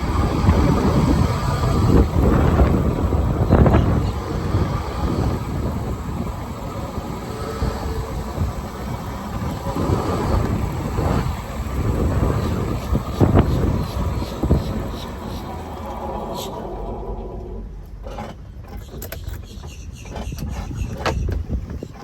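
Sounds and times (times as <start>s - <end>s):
electric golf cart rumble: 0.0s - 22.0s
wind buffeting microphone: 0.0s - 22.0s.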